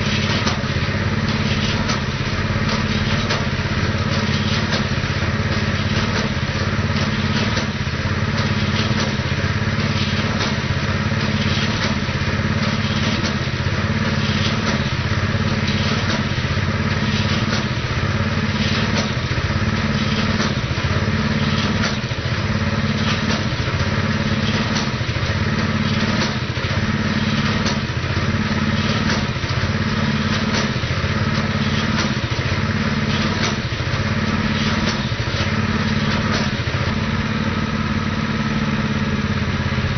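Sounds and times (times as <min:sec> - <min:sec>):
gasoline engine running drill rig: 0:00.0 - 0:39.9.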